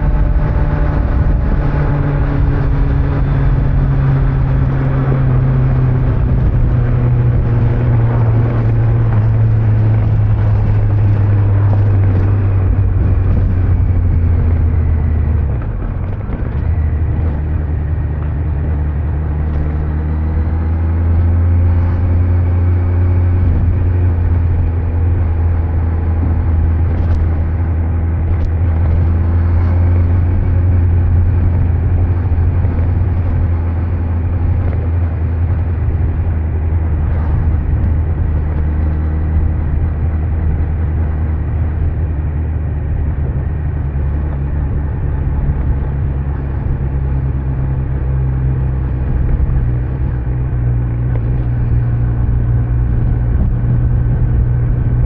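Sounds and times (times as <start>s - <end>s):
motorcycle engine running: 0.0s - 55.0s
wind noise: 0.0s - 55.0s.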